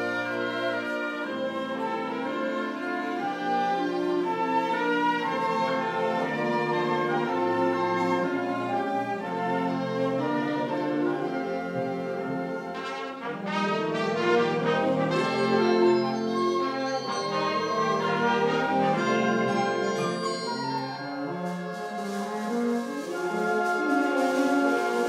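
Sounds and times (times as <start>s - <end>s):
concert wind band playing: 0.0s - 25.0s.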